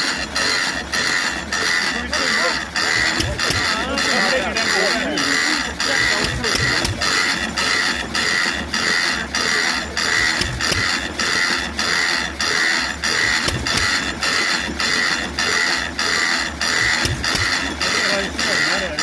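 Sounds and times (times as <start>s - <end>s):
single-cylinder engine running: 0.0s - 19.0s.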